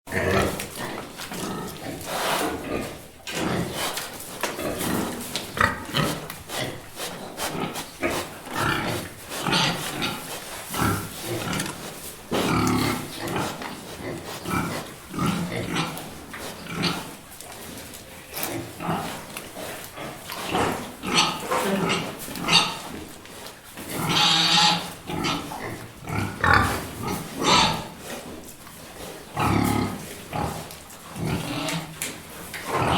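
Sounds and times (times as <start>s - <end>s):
pigs grunting and oinking: 0.1s - 32.9s.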